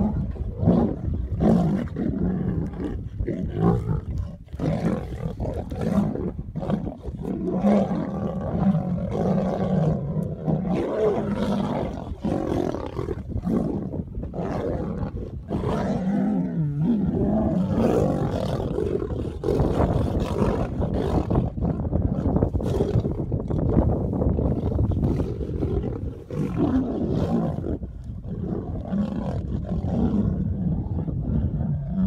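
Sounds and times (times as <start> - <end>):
lions growling and snarling: 0.0 - 32.0.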